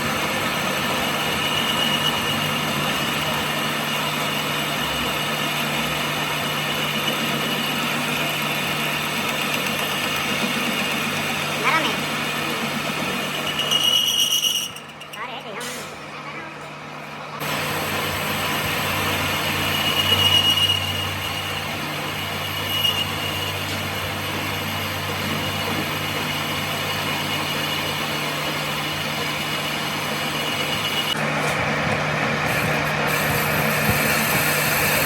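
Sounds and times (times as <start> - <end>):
workshop machine whining: 0.0 - 35.0.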